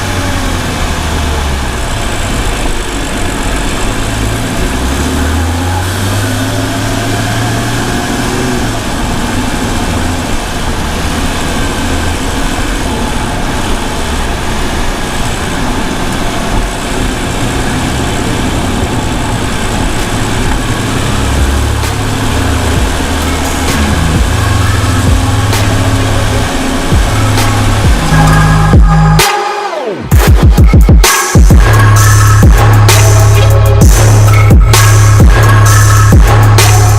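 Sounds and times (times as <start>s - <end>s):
car engine and exhaust: 0.0s - 36.9s
constant rushing noise: 0.0s - 36.9s.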